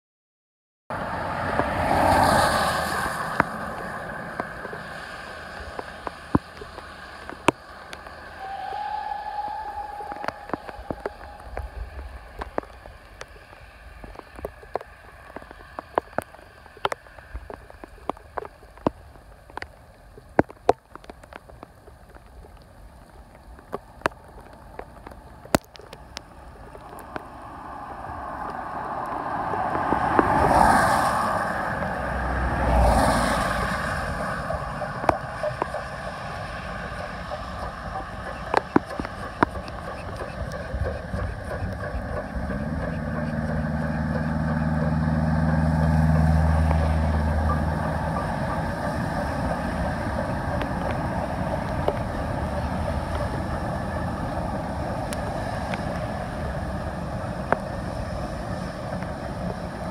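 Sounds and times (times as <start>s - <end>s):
steam train rushing and rumbling: 1.0s - 17.8s, 27.4s - 59.9s
raindrops tapping: 2.9s - 8.4s, 9.5s - 31.6s, 32.6s - 56.4s.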